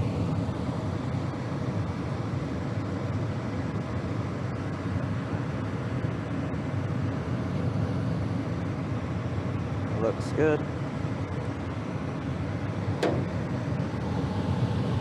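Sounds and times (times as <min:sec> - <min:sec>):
gas furnace rumble and whoosh: 0:02.8 - 0:15.0.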